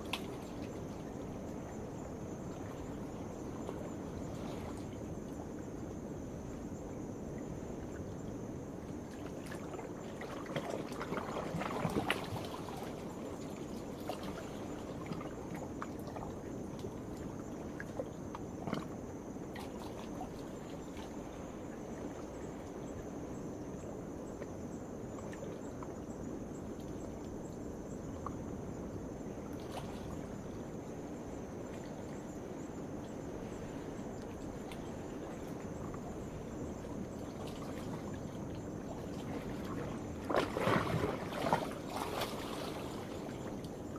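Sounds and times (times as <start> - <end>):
night insects chirping: 0.0 - 43.9.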